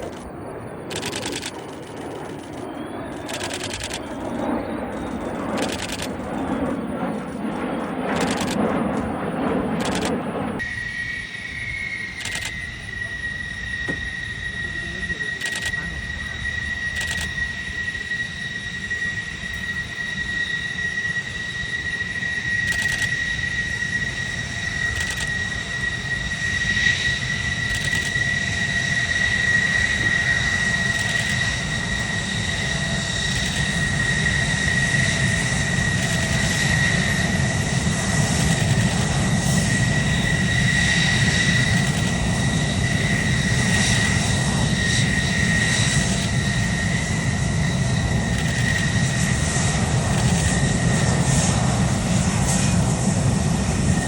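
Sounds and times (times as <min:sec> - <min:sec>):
aircraft engines whining: 0:00.0 - 0:54.0.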